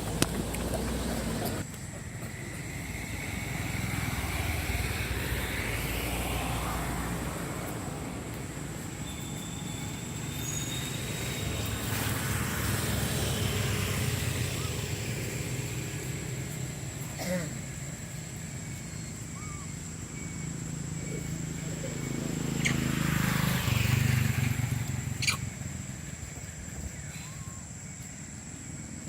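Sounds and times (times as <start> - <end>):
road vehicles rumbling past: 0.0 - 29.0.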